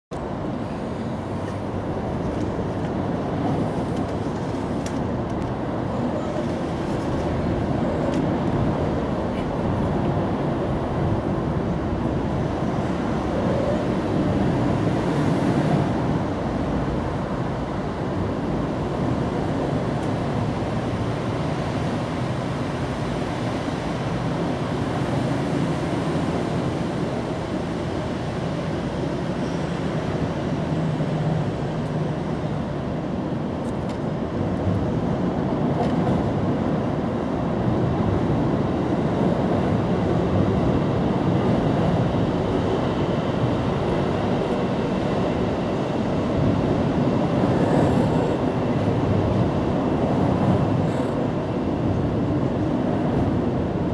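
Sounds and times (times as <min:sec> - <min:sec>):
steady rumbling background noise: 0:00.1 - 0:53.9.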